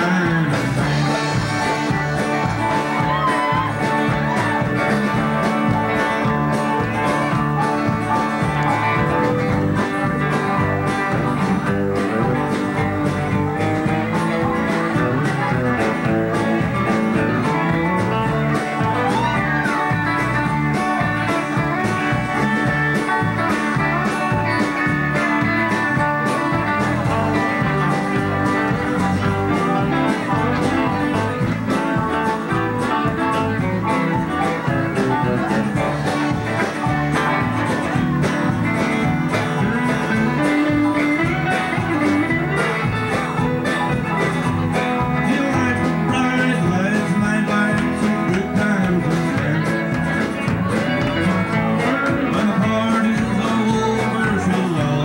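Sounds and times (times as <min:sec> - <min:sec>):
country band playing: 0:00.0 - 0:55.0
electric guitars: 0:00.0 - 0:55.0
strummed acoustic guitar: 0:00.0 - 0:55.0.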